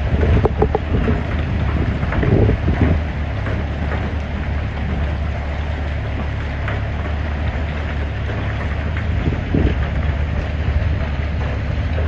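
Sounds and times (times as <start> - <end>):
motorcycle engine drone: 0.0 - 12.0
wind noise on microphone: 0.0 - 12.0.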